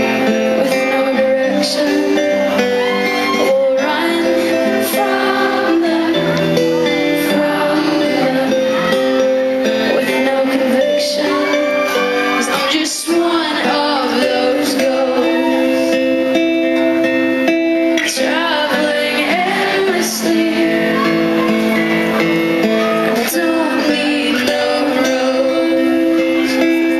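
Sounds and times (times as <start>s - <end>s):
woman singing: 0.0s - 16.7s, 17.8s - 21.6s, 22.7s - 26.9s
strummed acoustic guitar: 0.0s - 26.9s.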